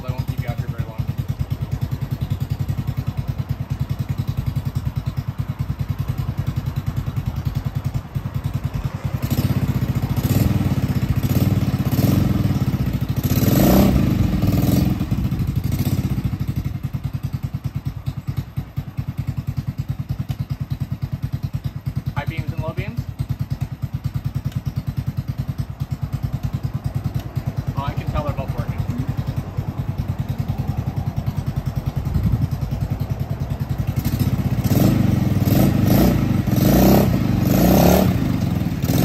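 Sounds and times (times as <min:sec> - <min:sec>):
scooter engine idling and revving: 0:00.0 - 0:39.0.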